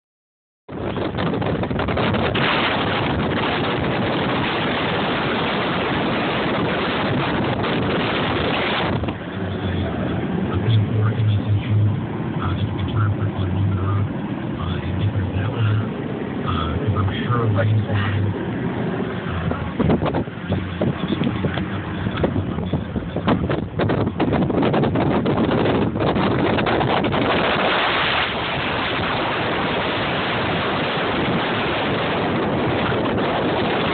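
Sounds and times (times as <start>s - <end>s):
car road noise: 0.7s - 33.9s
wind on microphone: 0.7s - 33.9s.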